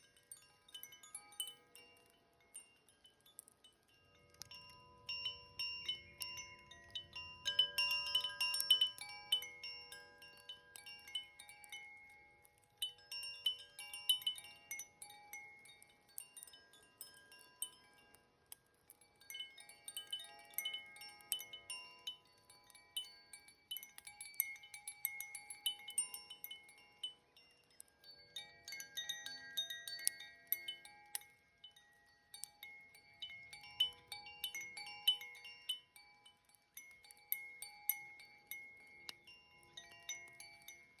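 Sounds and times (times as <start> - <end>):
wind chime ringing: 0.0 - 18.2, 19.0 - 41.0.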